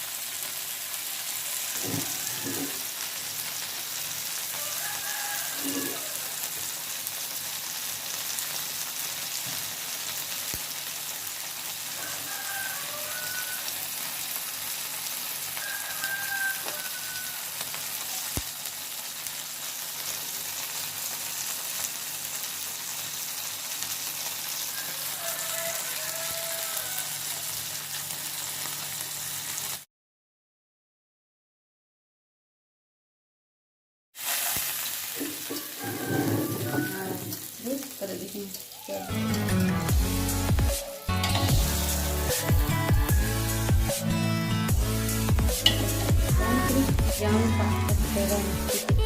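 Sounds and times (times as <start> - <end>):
hot oil sizzling in a pan: 0.0 - 29.9, 34.2 - 48.9.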